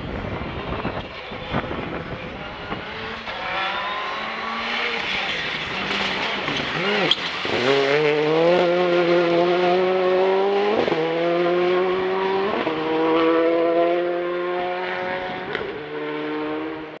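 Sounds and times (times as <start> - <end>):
rally car engine revving: 0.4 - 17.0.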